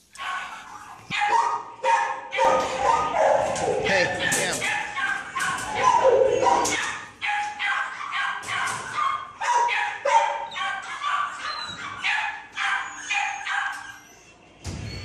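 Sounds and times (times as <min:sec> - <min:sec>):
dogs barking: 0:00.1 - 0:14.4.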